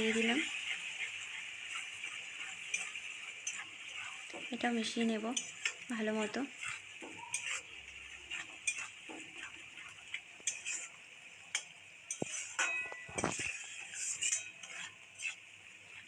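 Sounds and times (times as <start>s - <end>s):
spatula scraping a pan: 0.0s - 16.0s.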